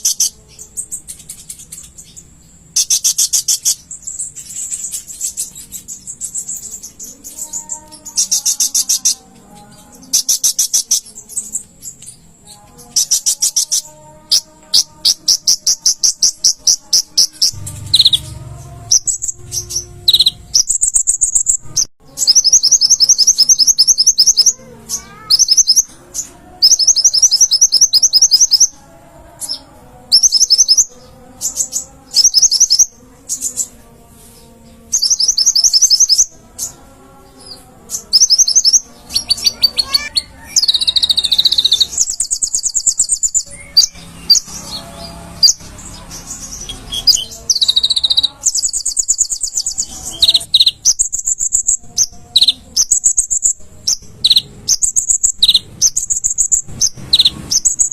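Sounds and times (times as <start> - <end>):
sunbird singing rapid trills: 0.0 - 28.8, 29.4 - 33.8, 34.8 - 36.8, 37.4 - 57.9.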